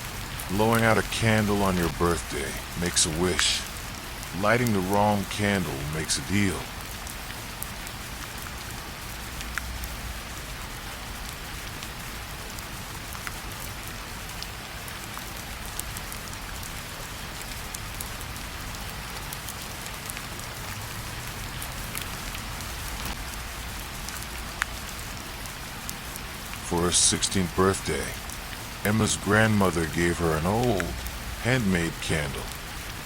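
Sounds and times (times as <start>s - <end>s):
raindrop ticks: 0.0s - 33.0s
steady rain falling: 0.0s - 33.0s.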